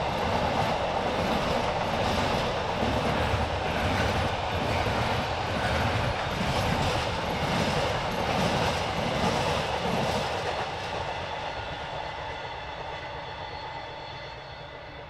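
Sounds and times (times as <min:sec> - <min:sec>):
freight train wagons on track: 0:00.0 - 0:15.0.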